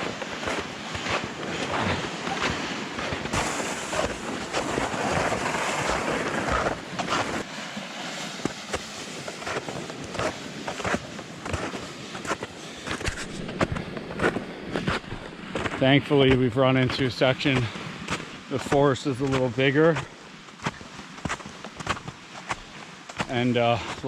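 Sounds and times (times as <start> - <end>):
sleds scraping over snow: 0.0 - 7.5, 8.1 - 24.0
footsteps crunching on slushy snow: 0.0 - 24.0.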